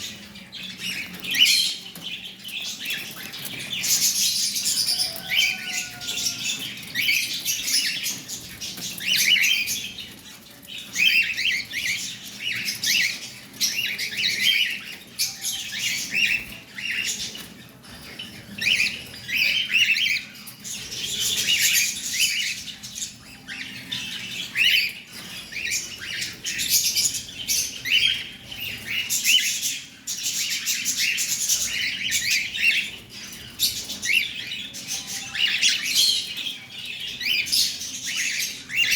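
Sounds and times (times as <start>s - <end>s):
cockatiel chirping and squawking: 0.0s - 38.9s.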